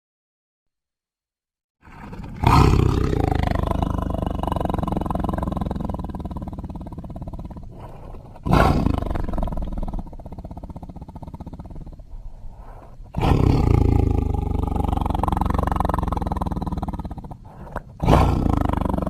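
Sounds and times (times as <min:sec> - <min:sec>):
dinosaur creature roaring: 0:01.8 - 0:12.2, 0:13.1 - 0:19.0
low rumbling: 0:02.3 - 0:19.0.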